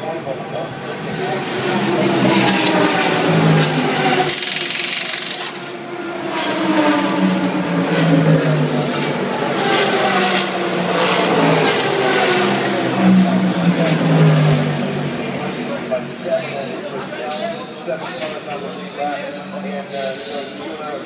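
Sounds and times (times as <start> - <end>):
race car engines running: 0.0 - 21.0.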